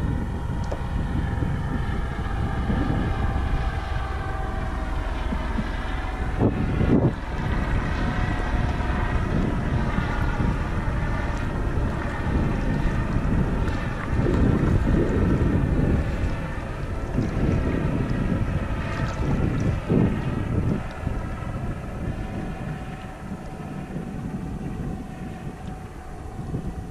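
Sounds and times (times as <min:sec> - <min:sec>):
faint steady drone: 0:00.0 - 0:26.9
sea water moving around kayak: 0:00.0 - 0:26.9
wind buffeting microphone: 0:00.0 - 0:26.9.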